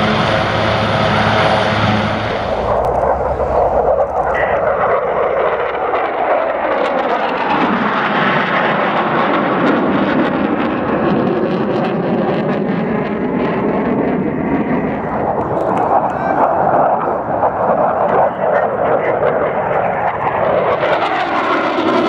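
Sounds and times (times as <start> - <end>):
jet engines rushing past: 0.0 - 22.0.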